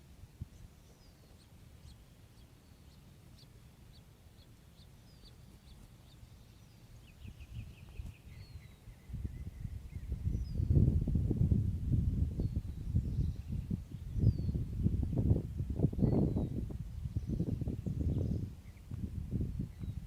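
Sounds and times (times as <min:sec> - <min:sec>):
small birds chipping calls: 0:00.0 - 0:11.1, 0:12.3 - 0:15.2, 0:15.8 - 0:20.0.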